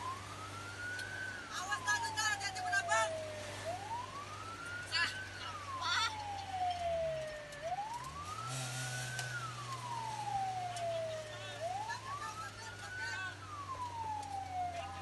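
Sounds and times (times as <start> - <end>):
fire truck siren wailing: 0.0 - 15.0
truck engine hum: 0.0 - 15.0.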